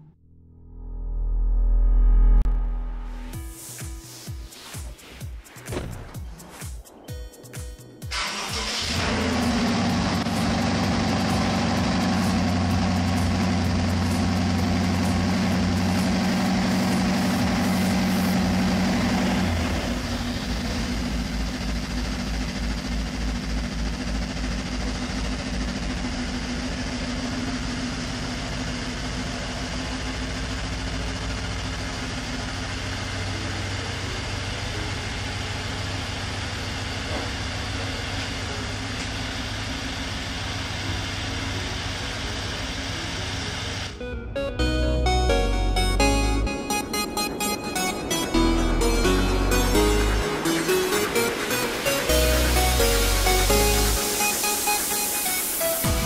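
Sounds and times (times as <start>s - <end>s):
car engine idling: 8.1s - 56.0s.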